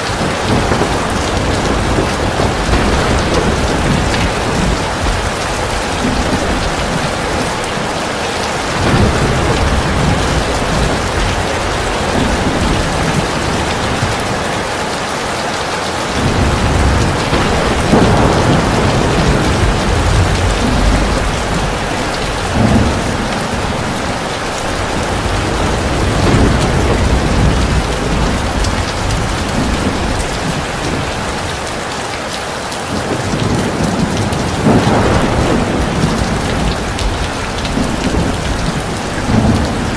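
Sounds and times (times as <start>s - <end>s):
low thunder rolls: 0.0s - 15.2s, 15.9s - 31.8s, 33.1s - 39.9s
heavy rain pouring: 0.0s - 39.9s.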